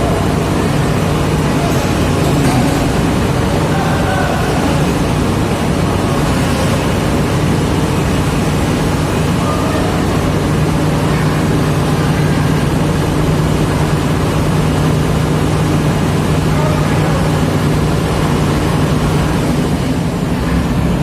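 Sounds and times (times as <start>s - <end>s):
large diesel engine droning: 0.0s - 21.0s.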